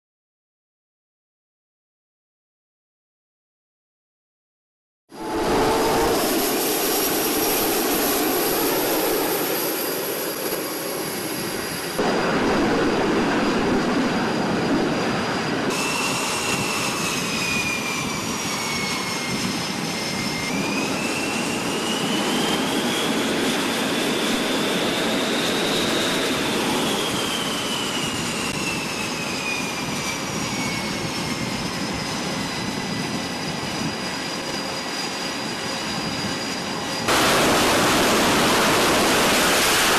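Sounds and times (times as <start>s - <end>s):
high turbine whine: 5.1s - 39.9s
jet engines roaring: 5.1s - 39.9s.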